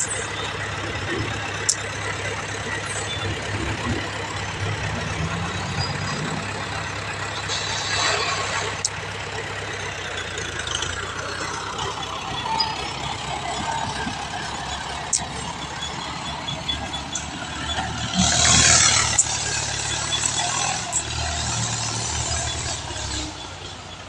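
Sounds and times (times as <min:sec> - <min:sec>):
dump truck engine running: 0:00.0 - 0:24.0.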